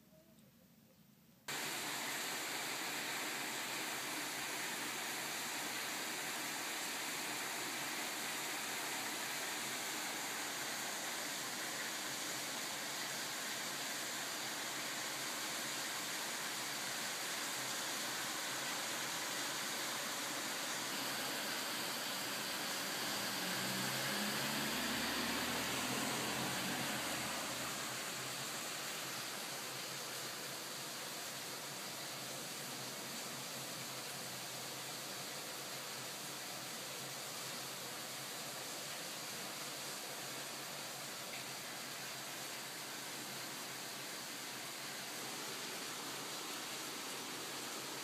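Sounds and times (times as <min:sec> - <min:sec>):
steady hiss: 0:00.9 - 0:48.0.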